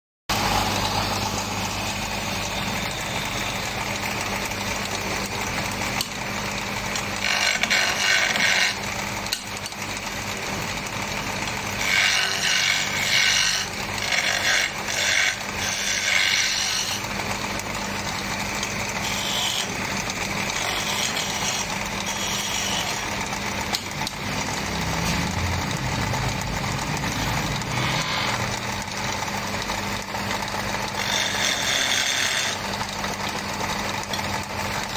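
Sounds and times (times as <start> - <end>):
lathe motor humming: 0.3 - 34.9
tool cutting spinning wood: 0.3 - 34.9.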